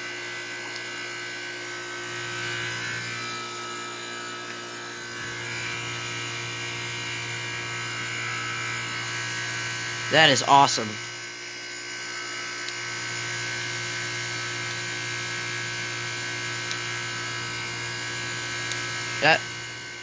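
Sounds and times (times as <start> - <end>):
compressor electric hum: 0.0 - 20.0.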